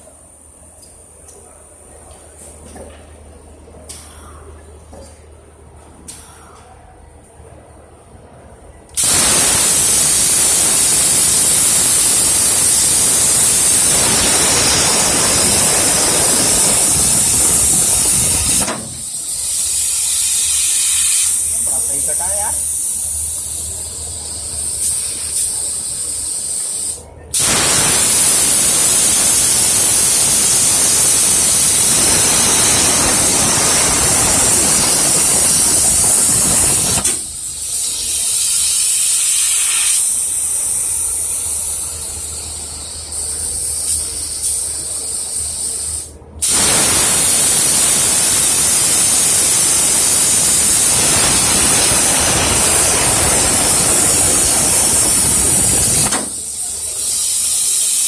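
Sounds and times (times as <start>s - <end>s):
cutting torch hissing: 9.0s - 58.0s.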